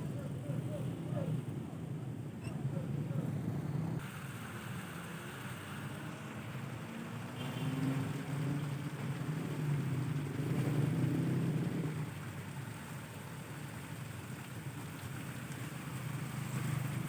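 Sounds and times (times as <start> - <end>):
vehicle engine running: 0.0 - 14.1.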